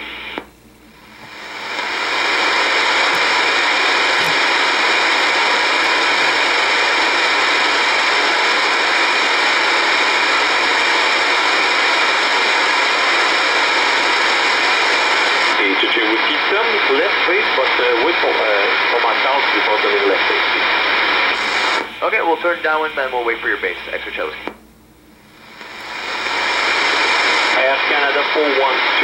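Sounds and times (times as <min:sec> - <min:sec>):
radio receiver static hiss: 0:00.0 - 0:29.0.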